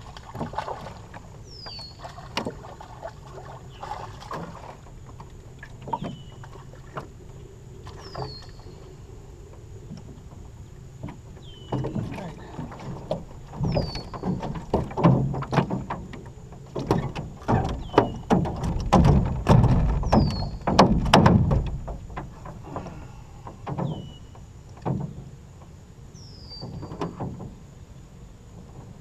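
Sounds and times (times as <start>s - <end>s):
fish flopping on metal boat: 0.0s - 8.9s, 9.5s - 25.4s.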